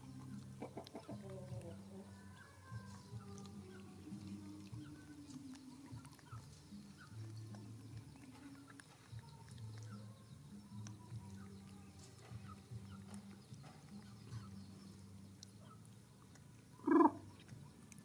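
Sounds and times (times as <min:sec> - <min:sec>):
monkey chewing wetly: 0:00.0 - 0:18.0.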